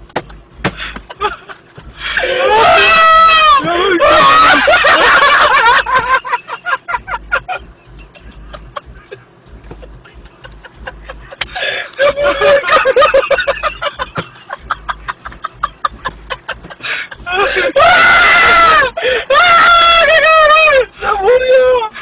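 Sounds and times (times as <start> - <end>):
people laughing hard: 0.8 - 22.0.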